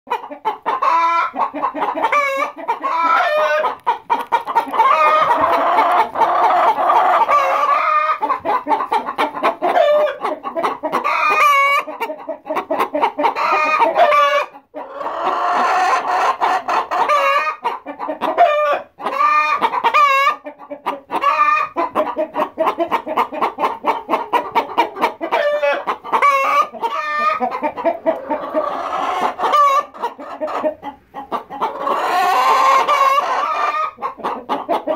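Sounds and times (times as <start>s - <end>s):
hens clucking: 0.1s - 34.9s.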